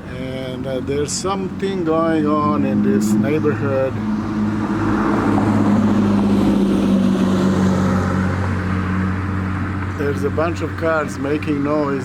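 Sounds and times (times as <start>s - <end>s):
car engines droning: 0.0s - 12.0s.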